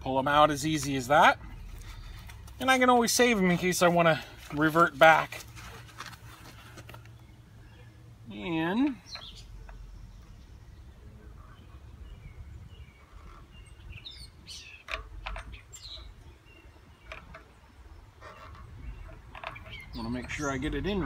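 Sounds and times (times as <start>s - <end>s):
birds chirping: 0.0s - 21.0s
low outdoor hum: 0.0s - 21.0s.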